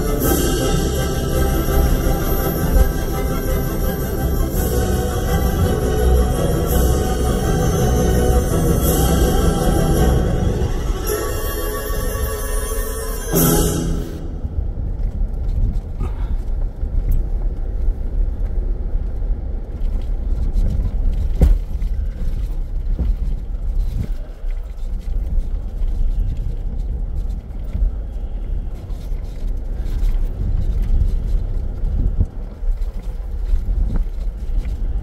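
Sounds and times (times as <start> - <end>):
engine and tyres rumbling: 0.0 - 11.6, 13.4 - 35.0.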